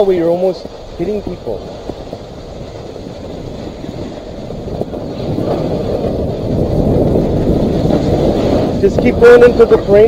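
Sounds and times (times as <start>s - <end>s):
snowboard scraping over snow: 0.0s - 10.0s
wind rushing over microphone: 0.0s - 10.0s.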